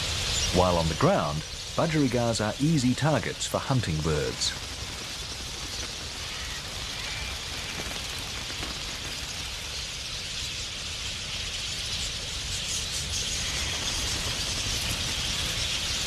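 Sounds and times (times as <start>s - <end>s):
flock of parakeets chattering: 0.0s - 16.0s.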